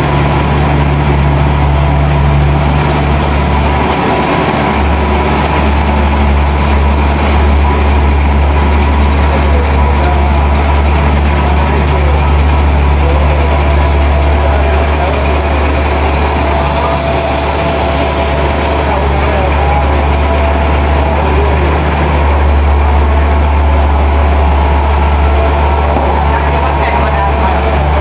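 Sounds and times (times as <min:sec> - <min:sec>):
even rushing noise: 0:00.0 - 0:28.0
machinery deep hum: 0:00.0 - 0:28.0.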